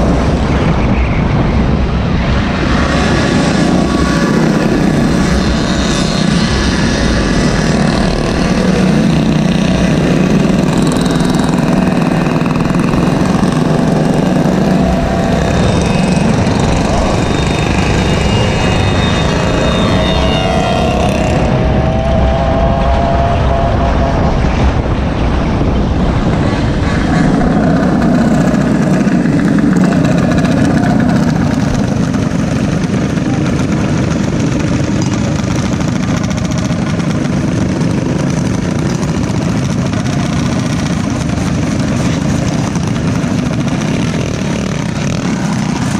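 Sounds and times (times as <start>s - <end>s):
small gasoline engines running: 2.8s - 21.6s, 26.8s - 45.9s.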